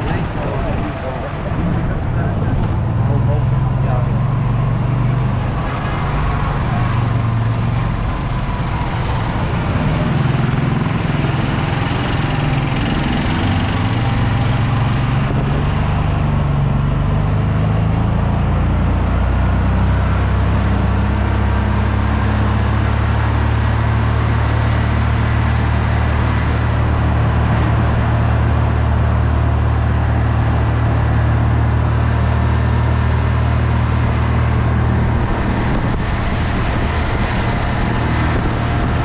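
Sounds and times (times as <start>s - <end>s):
small car engine running: 0.0s - 39.0s.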